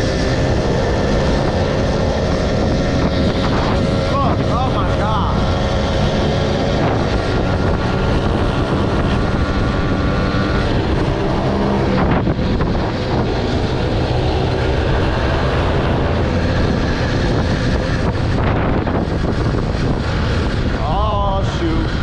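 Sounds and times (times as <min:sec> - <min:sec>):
road and wind noise: 0:00.0 - 0:22.0
small motorbike engine running: 0:00.0 - 0:22.0.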